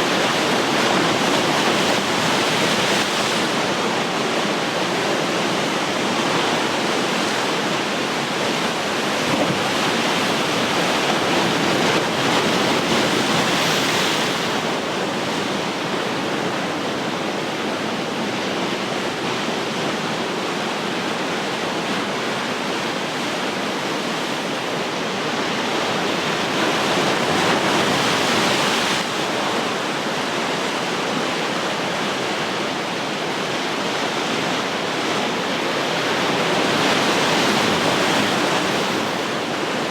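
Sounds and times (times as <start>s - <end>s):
ocean surf washing ashore: 0.0s - 39.9s.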